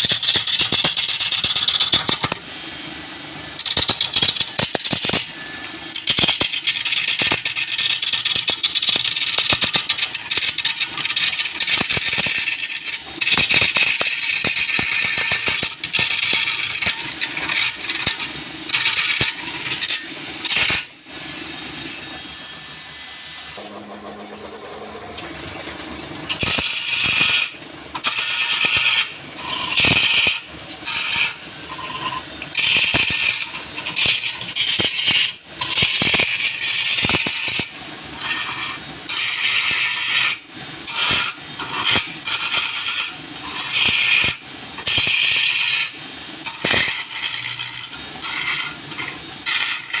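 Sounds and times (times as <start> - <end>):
lathe tool scraping wood: 3.6 - 25.5, 26.3 - 50.0.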